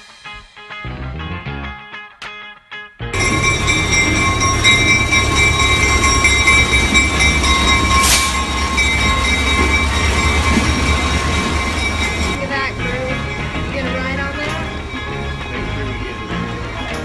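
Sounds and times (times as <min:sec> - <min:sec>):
diesel locomotive engine rumble: 0:03.2 - 0:17.0
high ringing tones: 0:03.2 - 0:17.0.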